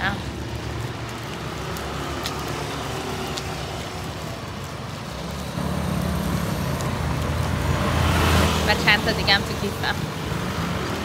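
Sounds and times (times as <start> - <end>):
passing cars and motorbikes: 0.0 - 11.0.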